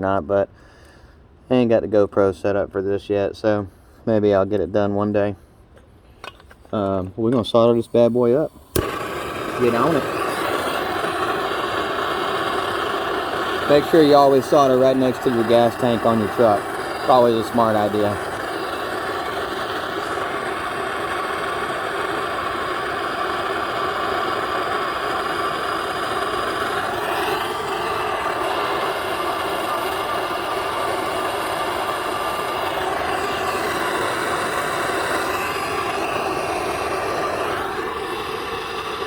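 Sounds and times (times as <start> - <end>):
torch flame burning: 5.8 - 39.0.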